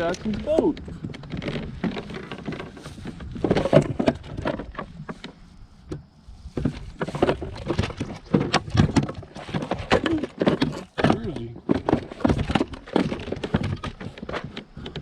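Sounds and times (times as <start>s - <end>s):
objects knocking in a boat: 0.0s - 15.0s.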